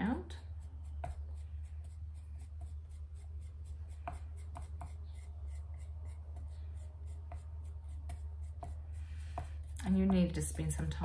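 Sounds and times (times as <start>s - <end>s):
steady low hum: 0.0s - 11.0s
wooden tool scraping clay: 0.0s - 11.0s.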